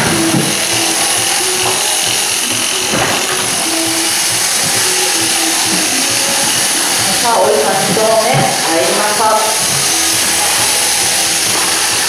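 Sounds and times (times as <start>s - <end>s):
electric shears buzzing: 0.0s - 12.0s.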